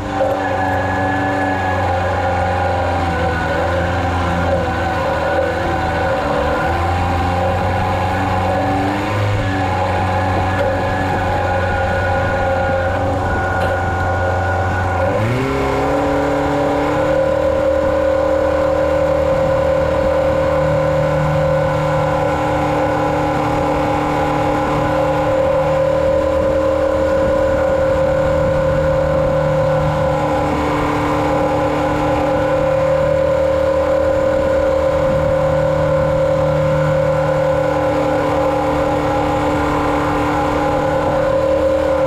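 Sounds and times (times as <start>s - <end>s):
farm machinery engine running: 0.0s - 42.0s.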